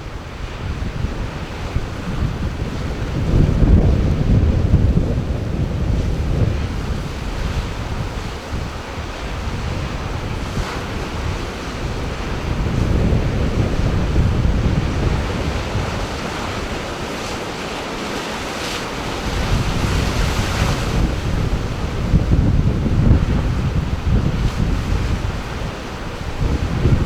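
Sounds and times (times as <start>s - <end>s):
surf breaking and washing ashore: 0.0s - 27.0s
wind buffeting microphone: 0.0s - 27.0s.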